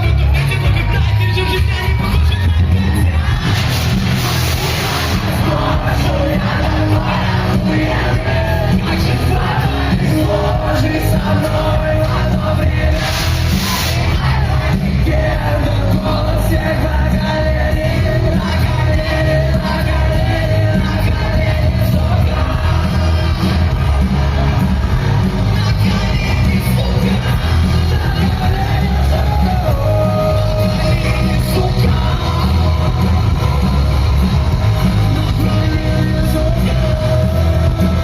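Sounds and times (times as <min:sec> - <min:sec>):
crowd yelling along: 0:00.0 - 0:38.0
loud live band music: 0:00.0 - 0:38.0.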